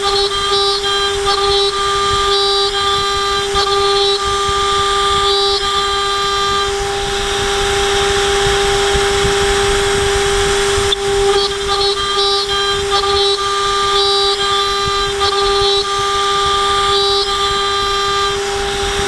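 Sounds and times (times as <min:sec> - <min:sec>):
cnc spindle whining: 0:00.0 - 0:19.0
end mill cutting metal: 0:00.0 - 0:19.0.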